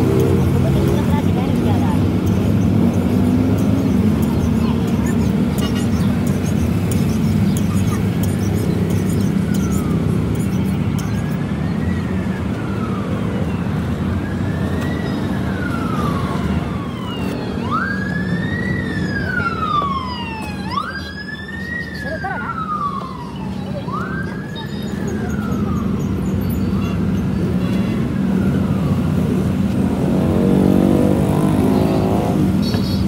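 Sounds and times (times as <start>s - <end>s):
wailing siren: 0.0s - 32.4s.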